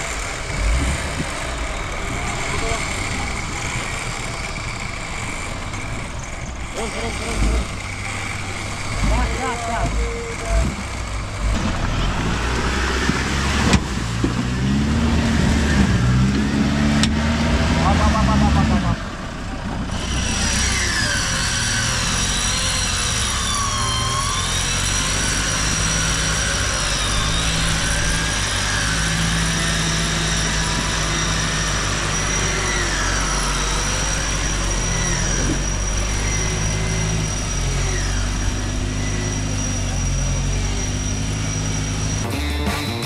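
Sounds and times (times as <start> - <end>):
off-road vehicle engine drone: 0.0 - 43.0.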